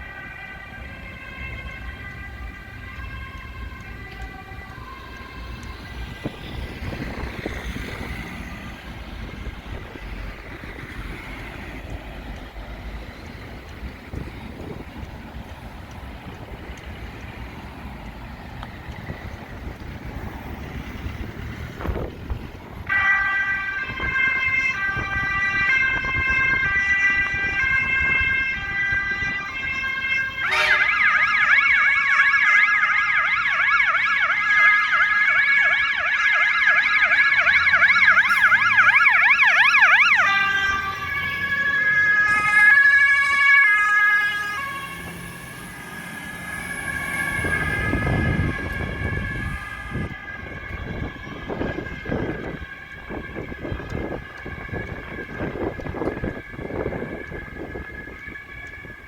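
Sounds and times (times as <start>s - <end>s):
emergency siren alternating tones: 0.0s - 59.0s
vehicle road noise passing: 0.0s - 59.0s.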